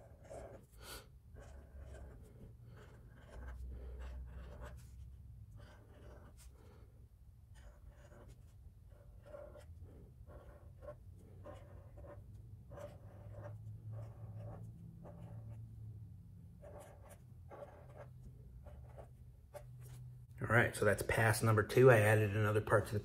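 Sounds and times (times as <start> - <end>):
marker drawing on paper: 0.0 - 15.8, 16.6 - 20.1.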